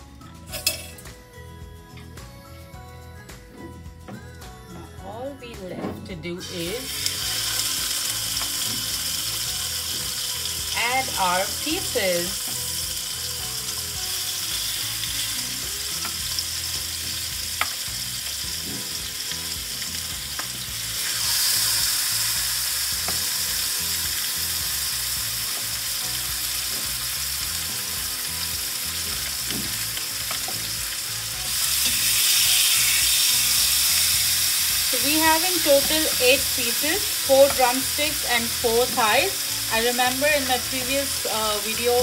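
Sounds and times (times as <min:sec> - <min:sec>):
chicken sizzling in oil: 0:06.4 - 0:42.0.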